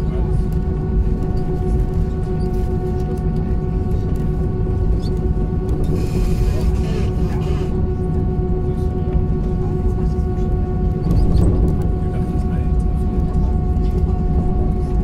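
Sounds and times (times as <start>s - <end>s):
airplane cabin engine rumble: 0.0s - 15.0s
hum of steady tones: 0.0s - 15.0s.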